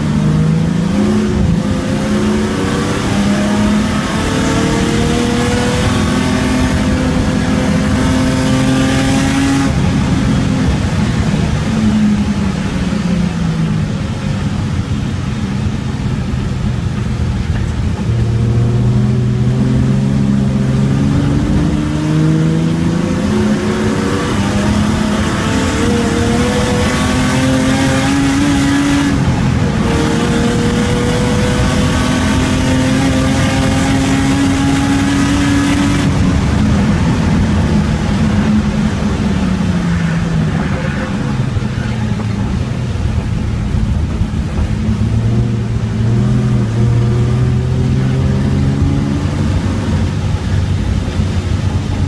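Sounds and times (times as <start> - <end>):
race car engine revving: 0.0 - 52.0
tyre and road noise: 0.0 - 52.0.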